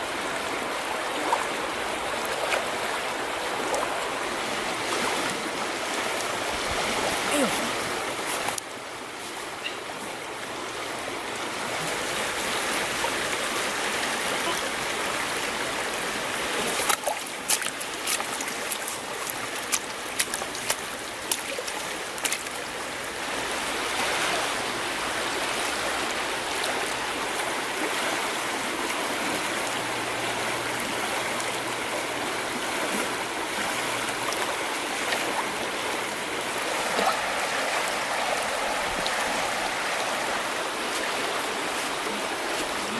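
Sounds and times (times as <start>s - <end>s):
river water running: 0.0s - 42.9s.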